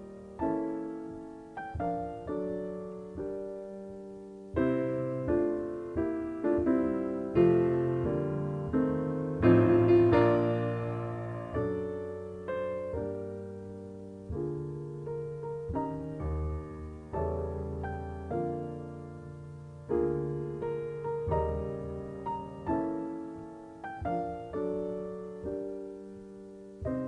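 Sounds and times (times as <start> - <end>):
slow solo piano: 0.0 - 27.0.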